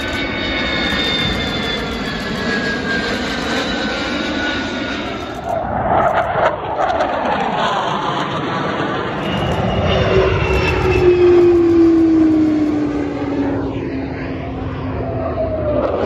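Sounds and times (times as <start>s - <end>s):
jet aircraft passing overhead: 0.0s - 16.0s
jet engine whine falling in pitch: 0.0s - 16.0s.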